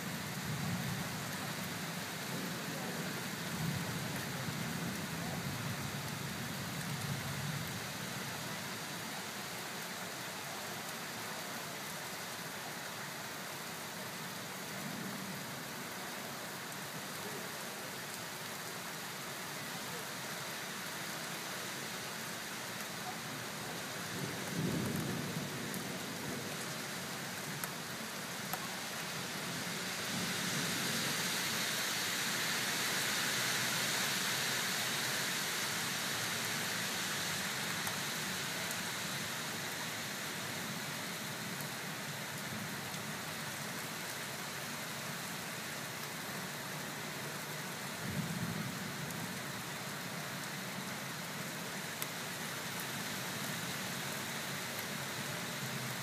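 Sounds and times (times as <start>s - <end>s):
rain on wet pavement: 0.0s - 56.0s.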